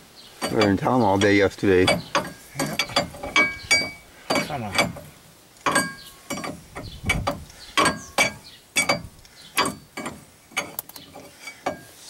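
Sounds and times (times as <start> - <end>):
hand tools clicking and clanking: 0.3 - 12.0.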